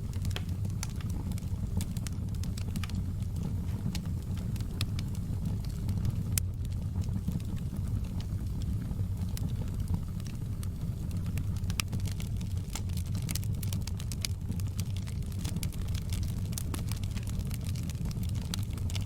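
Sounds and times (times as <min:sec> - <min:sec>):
fire rumbling: 0:00.0 - 0:19.0
logs crackling and popping: 0:00.0 - 0:19.0.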